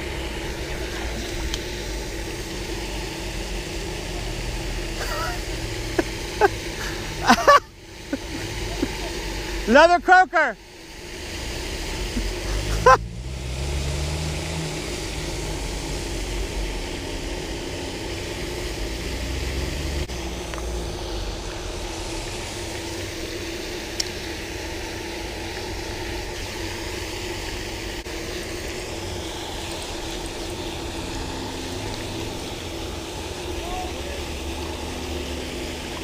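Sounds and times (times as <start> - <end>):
constant low hum: 0.0 - 36.0.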